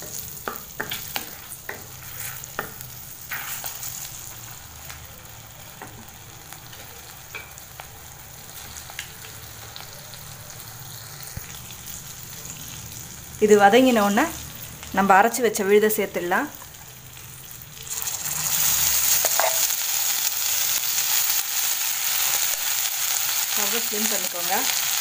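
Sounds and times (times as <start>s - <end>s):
spices sizzling in butter: 0.0s - 25.0s.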